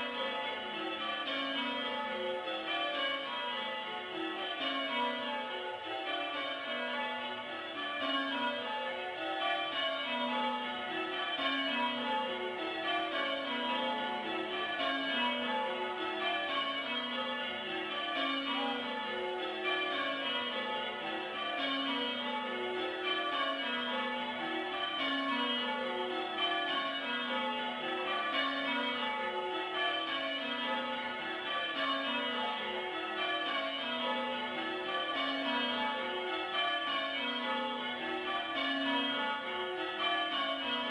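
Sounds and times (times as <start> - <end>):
church bells change ringing: 0.0 - 40.9.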